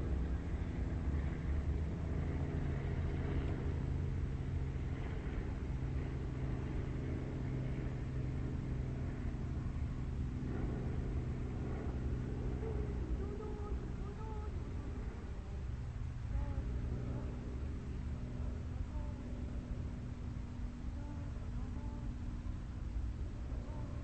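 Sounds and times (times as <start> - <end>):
constant drone: 0.0 - 24.0
low mechanical hum: 0.0 - 24.0.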